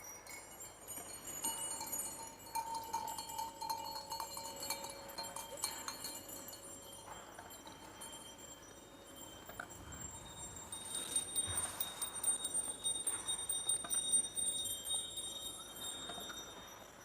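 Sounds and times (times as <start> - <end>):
livestock bells clinking: 0.0 - 17.0.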